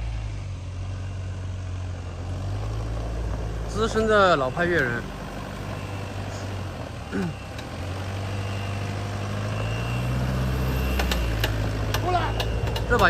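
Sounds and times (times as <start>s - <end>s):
engine droning under load: 0.0s - 13.0s.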